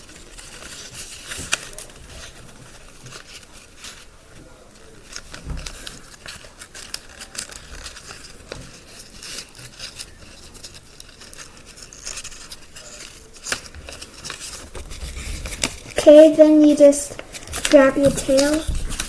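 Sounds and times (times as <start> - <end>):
paper being folded and creased: 0.0 - 19.0.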